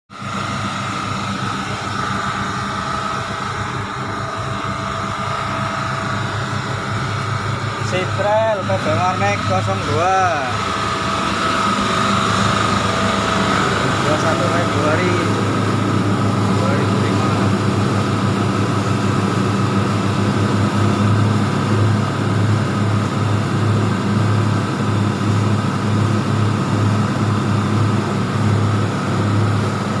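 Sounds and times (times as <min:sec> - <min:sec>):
engine running at full revs: 0:00.1 - 0:30.0
high whine: 0:00.1 - 0:30.0.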